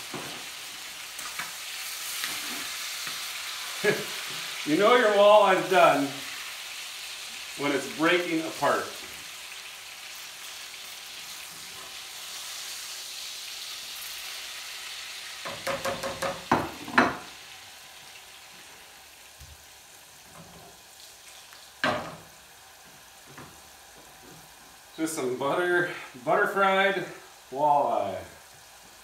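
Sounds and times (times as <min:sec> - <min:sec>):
fish frying in butter: 0:00.0 - 0:23.8.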